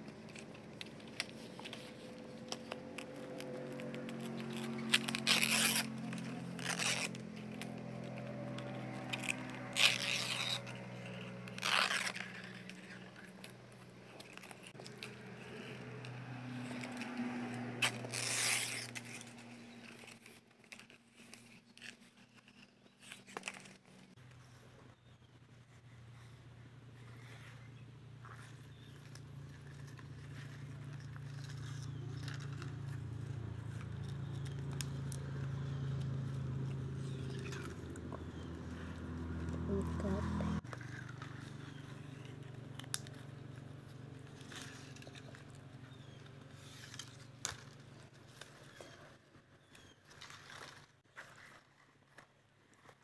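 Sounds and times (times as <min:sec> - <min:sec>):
coconut leaves rustling and tearing: 0:00.0 - 0:24.6, 0:28.2 - 0:53.0.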